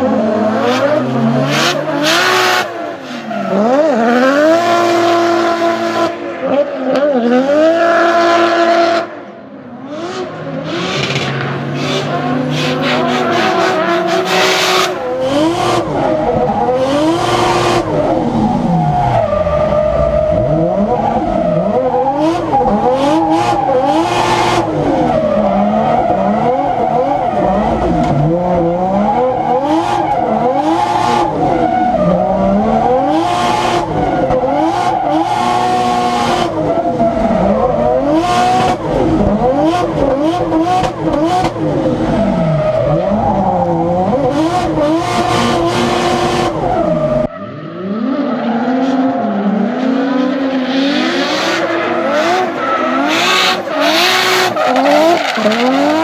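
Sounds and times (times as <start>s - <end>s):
car engine revving hard: 0.0s - 9.2s, 9.8s - 56.0s.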